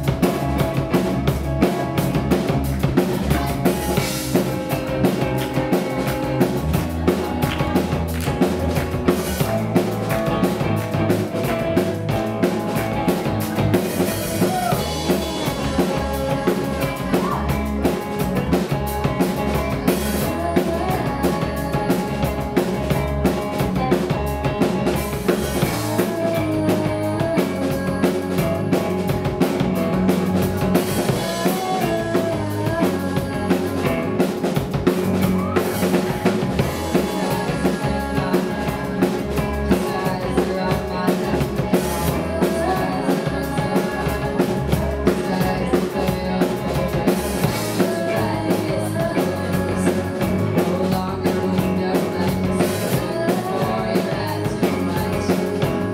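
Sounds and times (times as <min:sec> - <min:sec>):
drum kit beat: 0:00.0 - 0:55.9
rock band playing: 0:00.0 - 0:55.9.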